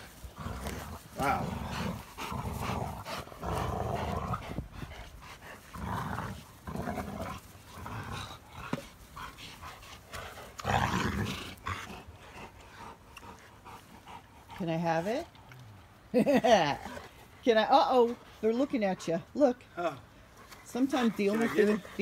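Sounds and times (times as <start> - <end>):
dogs growling: 0.0 - 17.4, 20.0 - 22.0.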